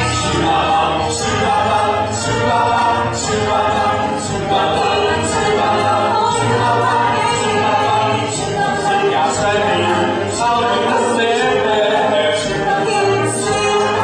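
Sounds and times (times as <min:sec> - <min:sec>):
group singing with music: 0:00.0 - 0:14.0.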